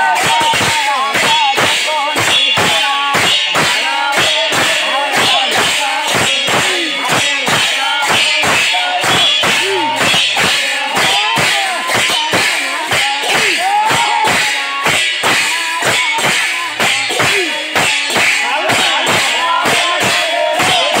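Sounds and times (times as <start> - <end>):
hand cymbals clashing: 0.0 - 21.0.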